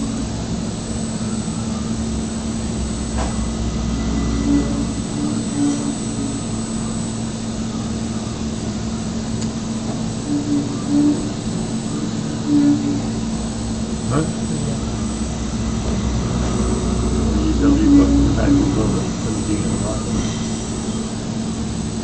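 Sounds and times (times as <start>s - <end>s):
deep machine rumble: 0.0s - 22.0s
milling machine whirring: 0.0s - 22.0s.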